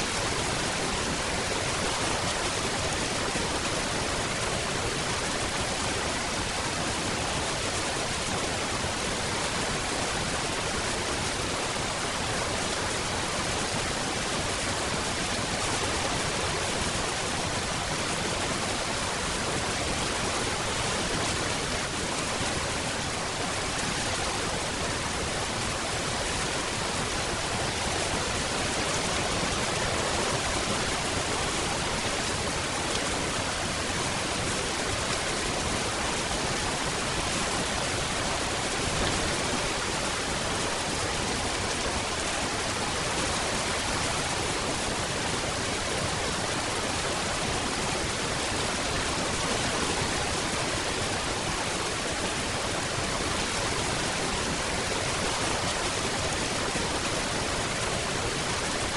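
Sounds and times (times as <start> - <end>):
heavy rain: 0.0 - 58.9.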